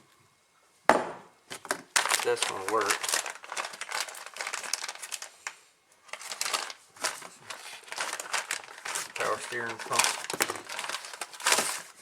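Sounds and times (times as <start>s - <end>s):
plastic packaging crinkling: 1.5s - 12.0s.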